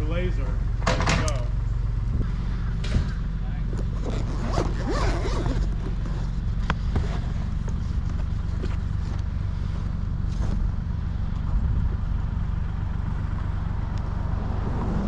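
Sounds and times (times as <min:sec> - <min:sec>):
heavy engine low drone: 0:00.0 - 0:04.8, 0:05.4 - 0:15.0.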